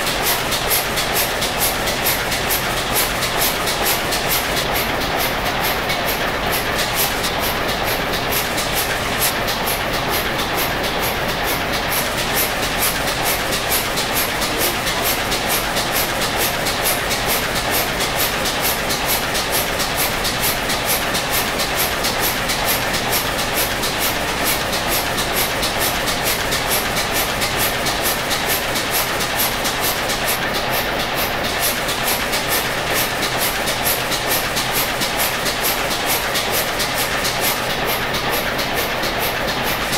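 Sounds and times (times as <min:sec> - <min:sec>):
diesel engine rhythmic clatter: 0:00.0 - 0:39.9.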